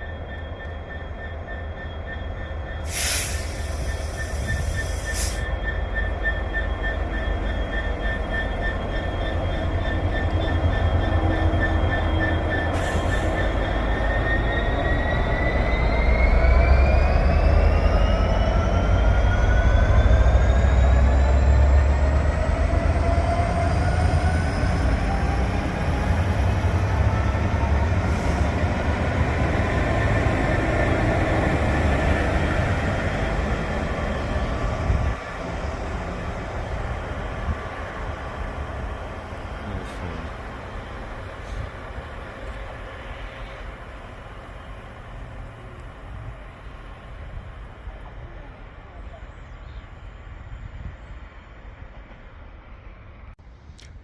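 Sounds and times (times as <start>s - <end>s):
train whine rising in pitch: 0.0s - 47.8s
train rumble: 0.0s - 54.0s.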